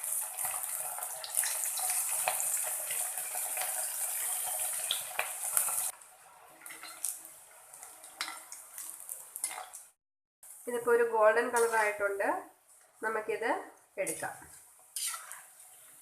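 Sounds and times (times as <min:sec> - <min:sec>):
food deep-frying in oil: 0:00.0 - 0:12.3, 0:14.0 - 0:16.0.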